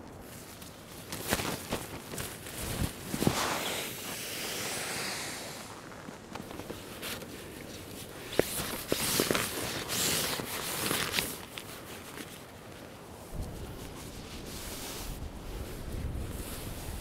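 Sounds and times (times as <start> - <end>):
nylon gear rustling: 0.2 - 17.0.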